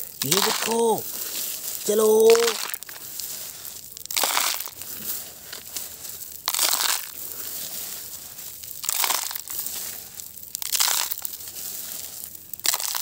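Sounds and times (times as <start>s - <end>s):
gravel poured into plastic bed: 0.0s - 13.0s.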